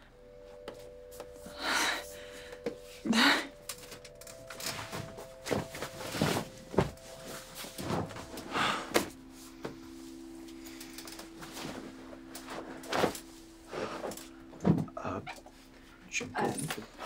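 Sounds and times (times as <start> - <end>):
soft background music: 0.0 - 17.0
clothes rustling: 0.6 - 17.0.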